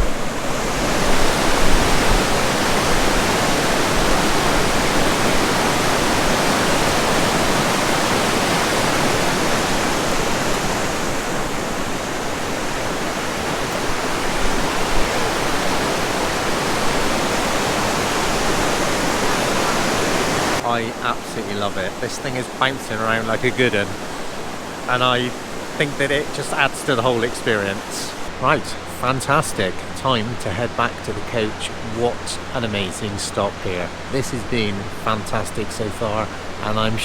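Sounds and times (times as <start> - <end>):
fast river rushing: 0.0 - 37.0.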